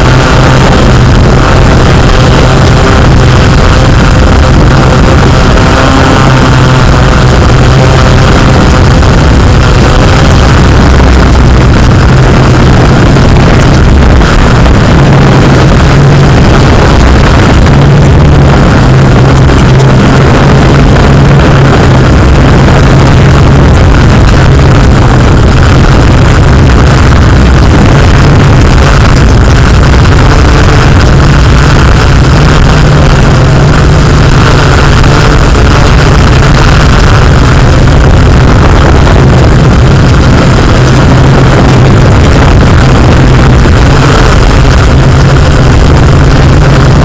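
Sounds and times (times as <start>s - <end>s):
drone motors humming: 0.0s - 47.0s.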